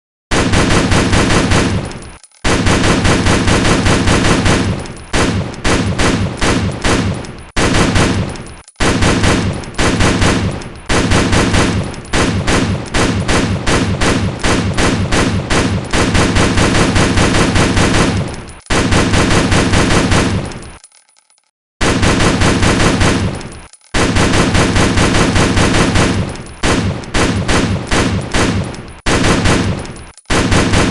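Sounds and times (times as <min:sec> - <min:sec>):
rifle firing rapid shots: 0:00.3 - 0:20.9, 0:21.8 - 0:30.9.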